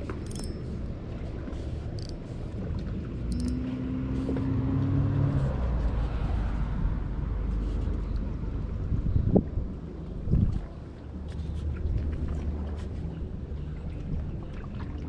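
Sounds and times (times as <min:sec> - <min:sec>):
engine humming: 0:00.0 - 0:15.0
low rumble: 0:00.0 - 0:15.0.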